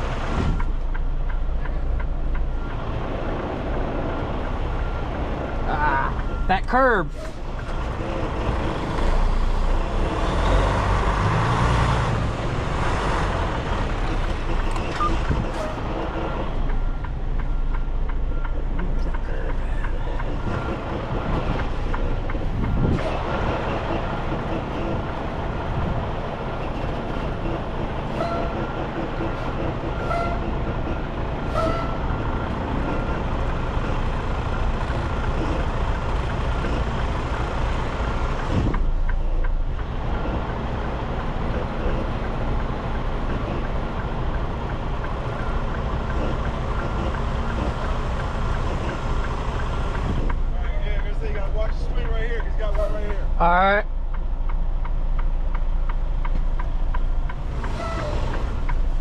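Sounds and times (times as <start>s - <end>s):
truck diesel engine running: 0.0s - 59.0s.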